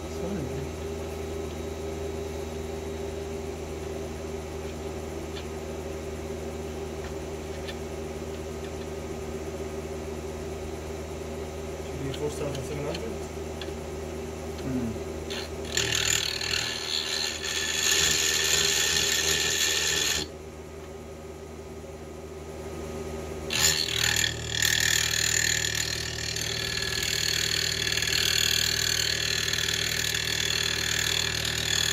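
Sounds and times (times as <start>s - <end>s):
rotating shaft humming: 0.0s - 20.4s, 23.5s - 31.9s.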